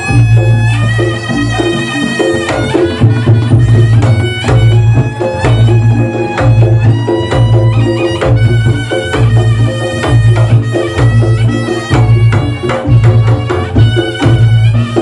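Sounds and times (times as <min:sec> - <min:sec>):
kendang drums: 0:00.0 - 0:15.0
nasal shawm melody: 0:00.0 - 0:15.0.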